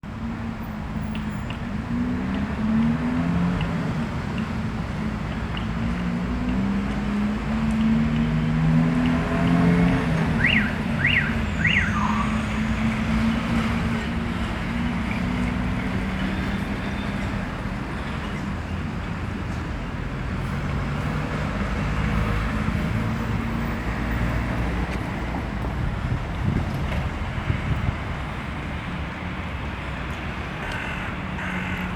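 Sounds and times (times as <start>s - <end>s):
road traffic noise: 0.0s - 31.9s.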